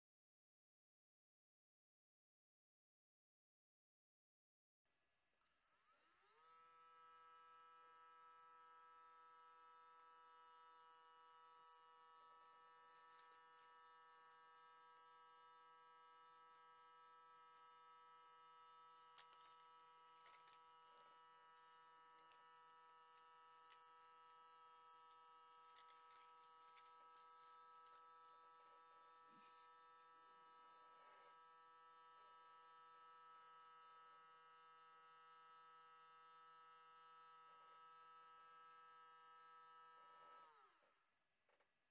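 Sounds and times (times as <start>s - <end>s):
electric motor whine: 5.6s - 41.0s.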